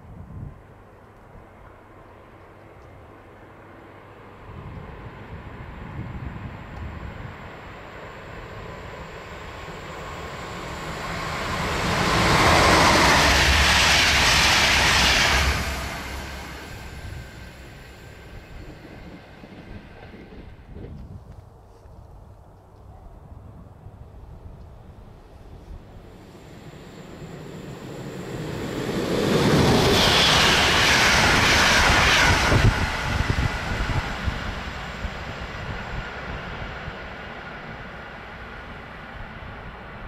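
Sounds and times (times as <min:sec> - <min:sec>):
train passing at speed: 0:00.0 - 0:21.4, 0:24.0 - 0:40.0.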